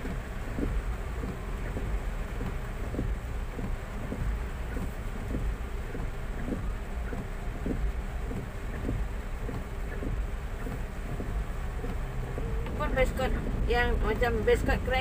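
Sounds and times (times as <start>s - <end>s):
low steady car rumble: 0.0s - 15.0s
raindrops tapping on car roof: 0.0s - 15.0s.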